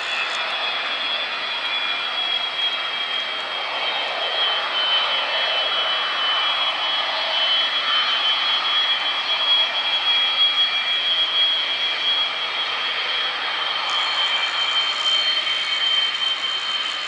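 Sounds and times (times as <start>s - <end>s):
high engine whine: 0.0s - 17.0s
jet engines running: 0.0s - 17.0s.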